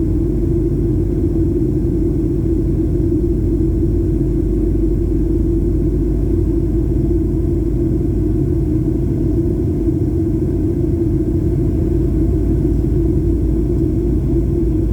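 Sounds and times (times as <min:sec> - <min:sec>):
airplane cabin engine drone: 0:00.0 - 0:14.9.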